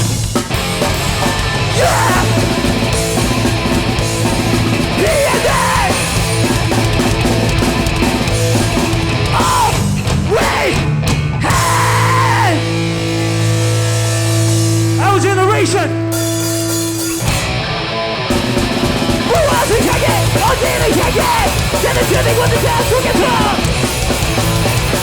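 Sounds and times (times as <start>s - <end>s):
hardcore punk band playing: 0.0s - 25.0s
yelled vocals: 0.0s - 25.0s.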